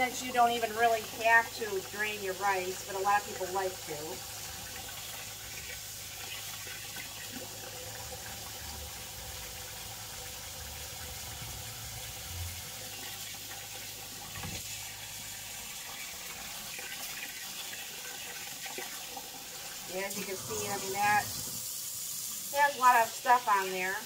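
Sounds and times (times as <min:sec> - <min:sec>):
faucet water splashing into sink: 0:00.0 - 0:24.0.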